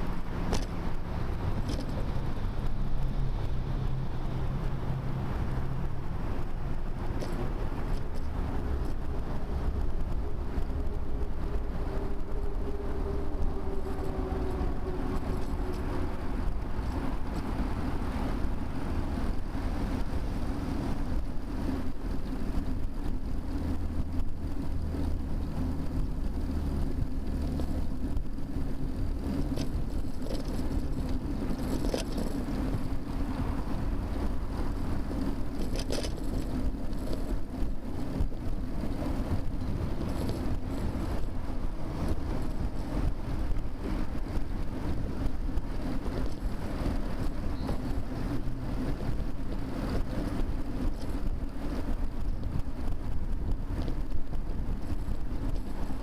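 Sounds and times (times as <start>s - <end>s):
bicycle rolling noise: 0.0s - 56.0s
motor traffic passing: 0.0s - 56.0s
wind noise: 0.0s - 56.0s.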